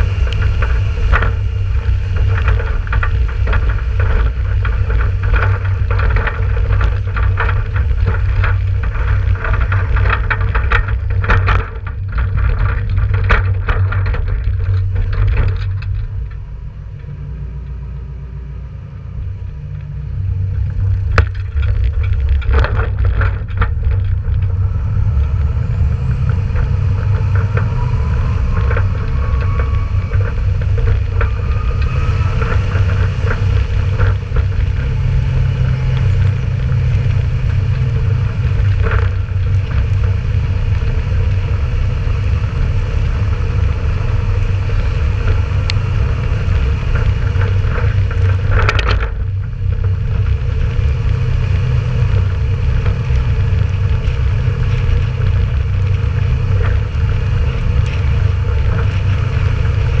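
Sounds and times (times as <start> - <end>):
loud clatter: 0.0 - 17.8, 19.1 - 60.0
tractor diesel engine rumble: 0.0 - 60.0
trailer road noise: 0.0 - 60.0.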